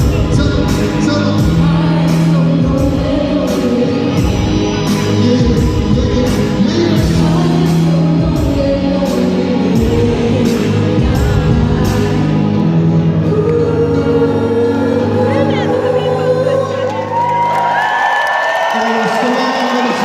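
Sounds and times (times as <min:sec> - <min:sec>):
live concert music with vocals: 0:00.0 - 0:20.0.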